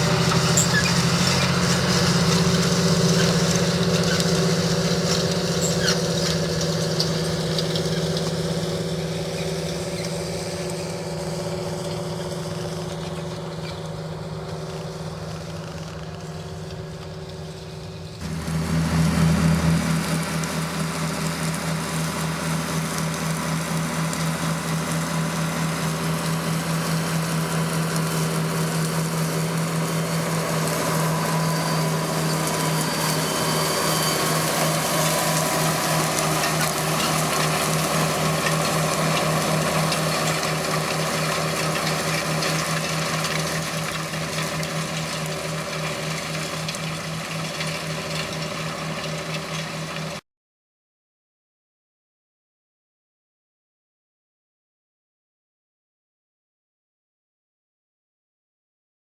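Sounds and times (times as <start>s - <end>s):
tractor diesel engine under load: 0.0s - 50.2s.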